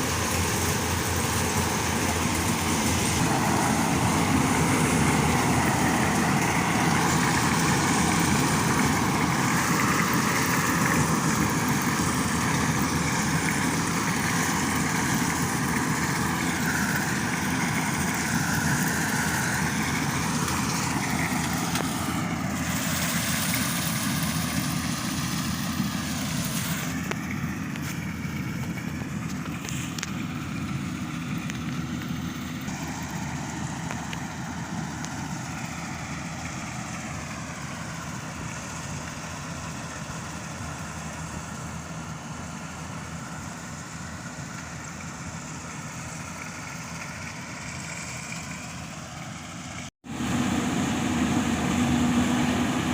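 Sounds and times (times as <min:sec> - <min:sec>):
harvester diesel engine running: 0:00.0 - 0:52.9.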